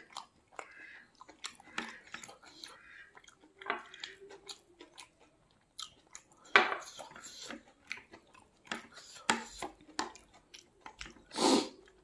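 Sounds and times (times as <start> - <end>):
man chewing: 0.0 - 12.0.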